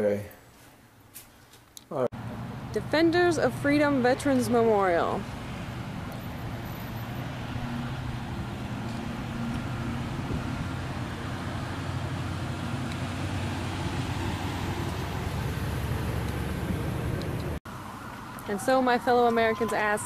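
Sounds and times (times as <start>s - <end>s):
motor vehicle engine hum: 2.2s - 20.0s.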